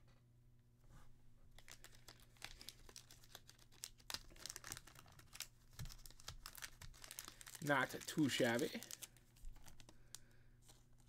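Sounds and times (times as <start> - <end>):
card crinkling and rustling: 1.5 - 11.0.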